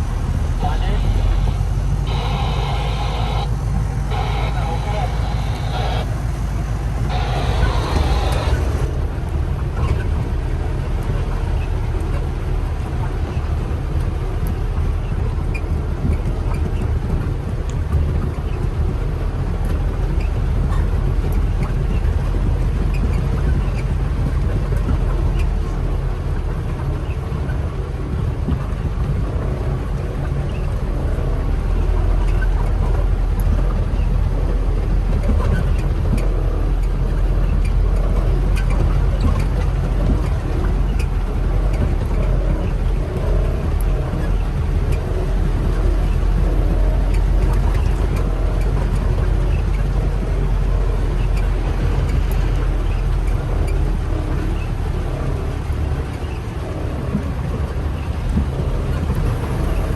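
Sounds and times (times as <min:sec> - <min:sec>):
low engine-like drone: 0:00.0 - 0:59.9.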